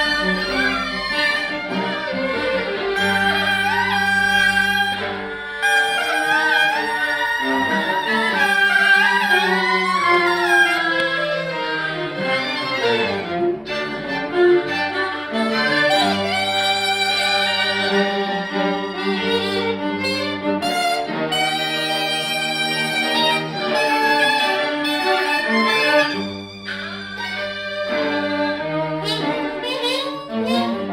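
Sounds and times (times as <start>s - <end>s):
string ensemble playing: 0.0s - 30.9s.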